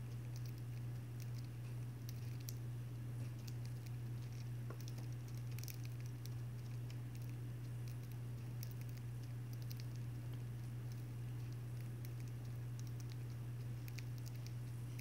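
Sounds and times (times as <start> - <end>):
parrots pecking seed: 0.0 - 15.0
steady low hum: 0.0 - 15.0.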